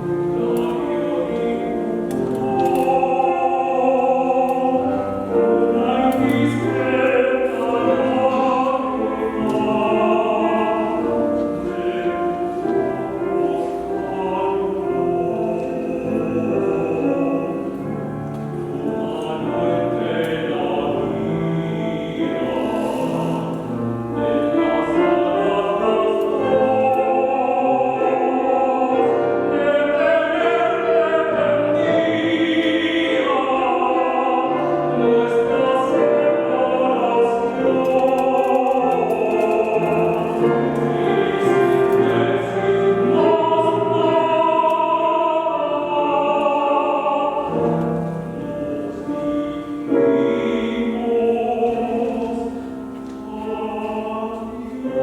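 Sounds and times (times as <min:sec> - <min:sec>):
choir singing classical music: 0:00.0 - 0:55.0.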